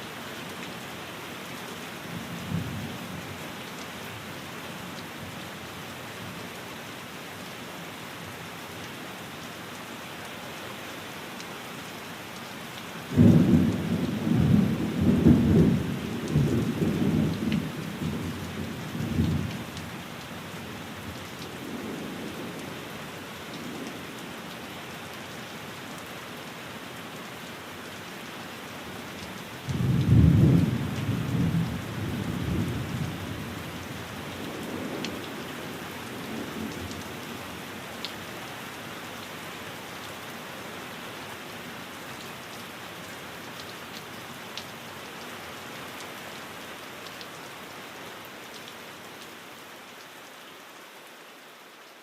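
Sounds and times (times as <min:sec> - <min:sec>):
rain on a window: 0:00.0 - 0:52.0.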